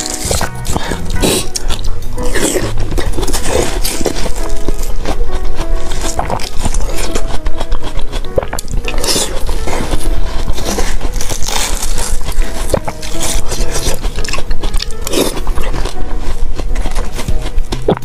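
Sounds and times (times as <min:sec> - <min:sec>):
crisp wet chewing: 0:00.0 - 0:18.0
spoon scraping watermelon: 0:00.0 - 0:18.0.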